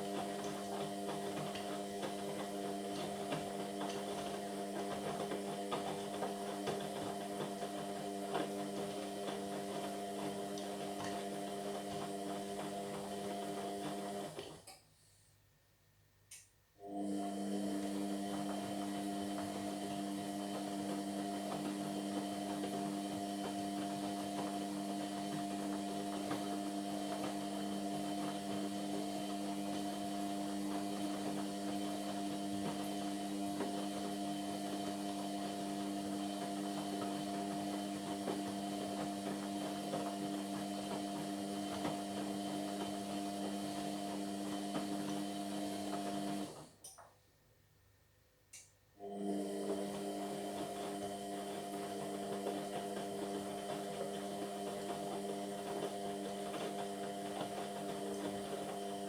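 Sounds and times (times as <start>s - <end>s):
washing machine running: 0.0s - 14.7s, 16.8s - 46.9s, 49.0s - 59.0s.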